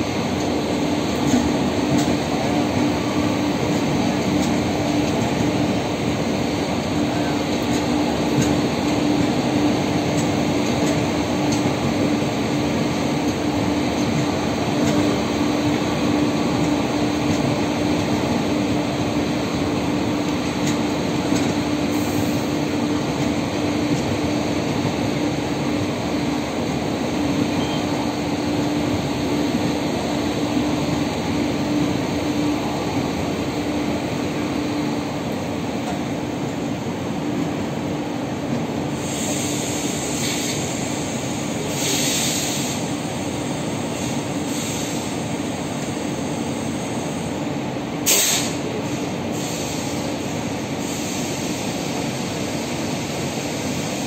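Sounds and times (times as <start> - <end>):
train rolling on rails: 0.0 - 54.0.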